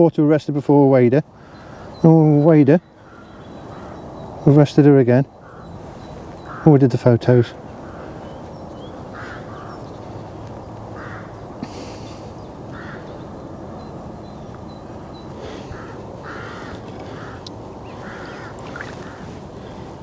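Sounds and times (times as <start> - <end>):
birds calling harshly: 0.7 - 20.0.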